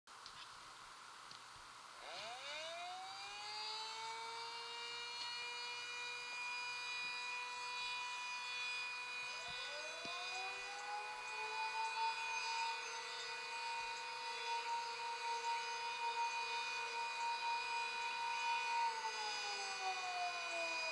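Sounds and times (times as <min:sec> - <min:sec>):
warning siren: 0:02.0 - 0:20.9.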